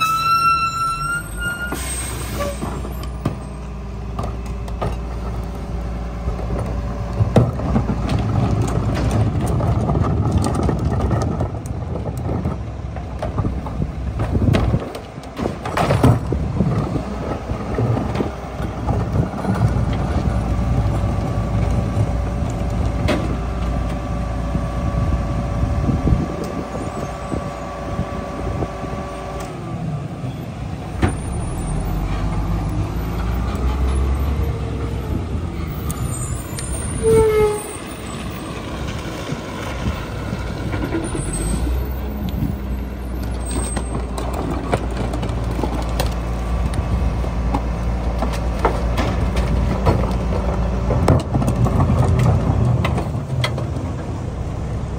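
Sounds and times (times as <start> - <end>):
diesel engine running: 1.7 - 54.9.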